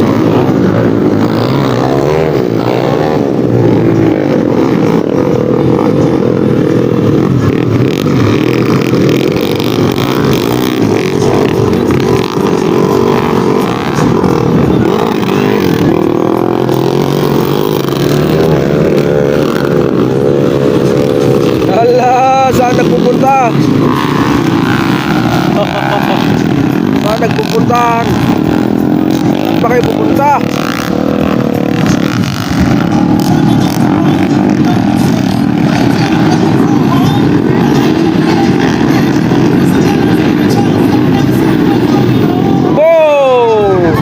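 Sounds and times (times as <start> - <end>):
motorcycle engines revving: 0.0 - 44.0.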